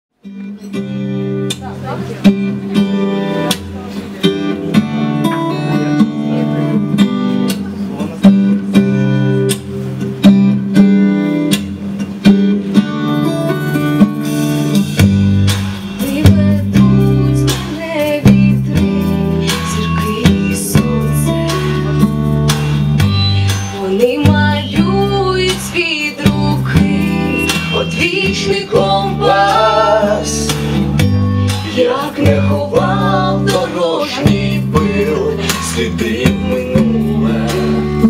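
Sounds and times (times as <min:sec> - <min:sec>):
acoustic guitar strumming: 0:00.2 - 0:38.0.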